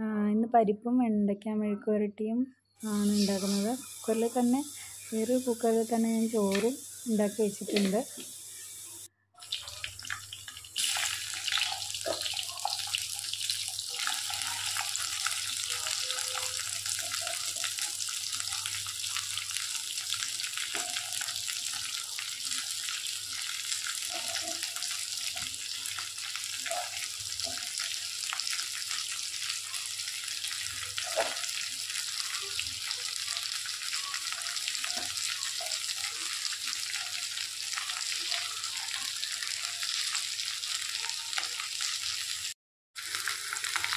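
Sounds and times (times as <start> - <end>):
oil sizzling in a clay pot: 2.7 - 43.9.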